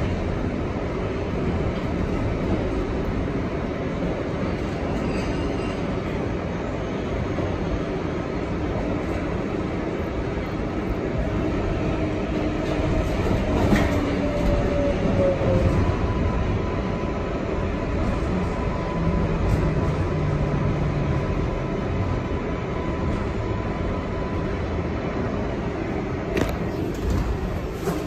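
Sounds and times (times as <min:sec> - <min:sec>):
subway car running on rails: 0:00.0 - 0:28.0.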